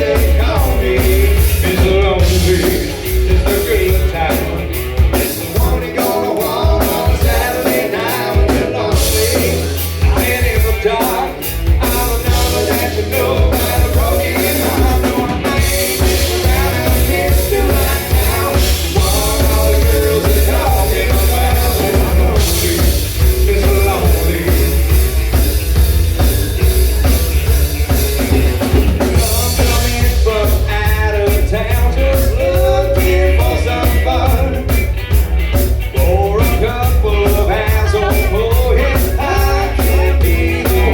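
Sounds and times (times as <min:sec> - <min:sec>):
person singing: 0:00.0 - 0:25.5, 0:28.6 - 0:34.9, 0:35.8 - 0:40.9
drum kit: 0:00.0 - 0:40.9
heavy bass: 0:00.0 - 0:40.9.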